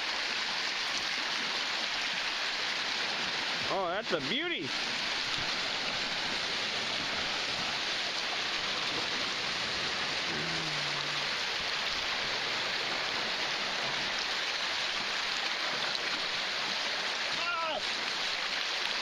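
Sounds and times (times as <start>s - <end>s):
waves splashing over rocks: 2.5s - 19.0s.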